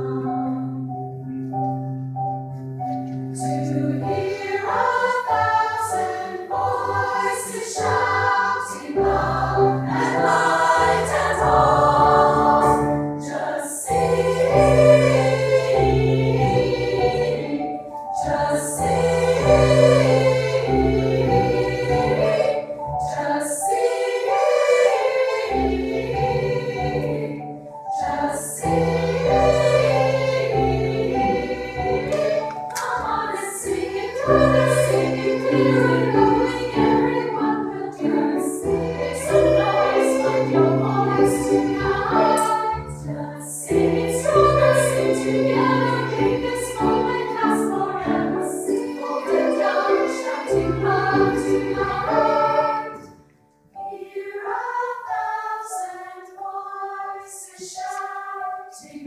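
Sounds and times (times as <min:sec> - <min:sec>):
women's choir singing: 0:03.4 - 0:53.2, 0:53.8 - 0:59.0.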